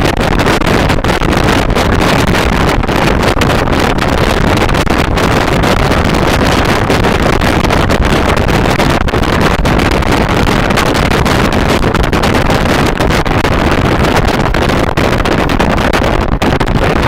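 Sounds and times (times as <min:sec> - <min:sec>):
motorboat engine and hull noise: 0:00.0 - 0:17.0
wind buffeting microphone: 0:00.0 - 0:17.0.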